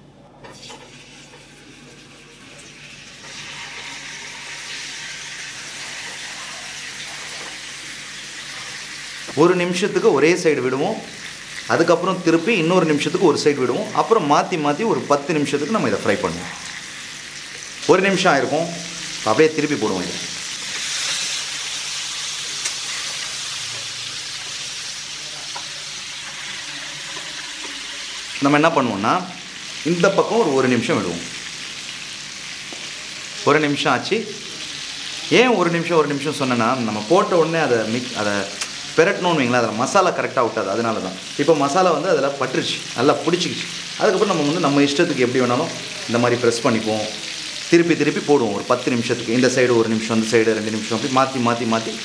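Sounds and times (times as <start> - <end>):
chicken sizzling in hot oil: 0.6 - 52.0.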